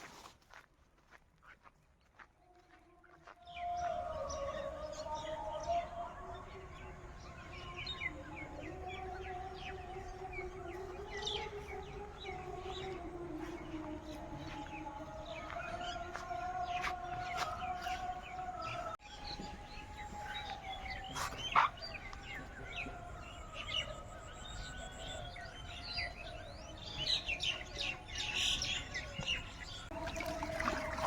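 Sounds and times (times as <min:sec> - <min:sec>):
wild birds chirping: 0:03.6 - 0:31.0.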